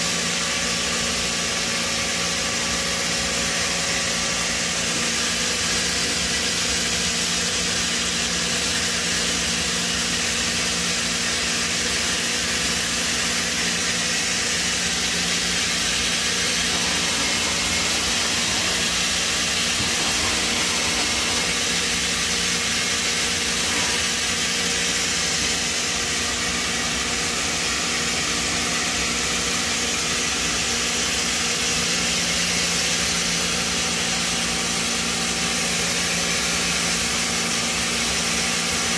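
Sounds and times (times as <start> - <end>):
lathe machine humming: 0.2 - 38.9.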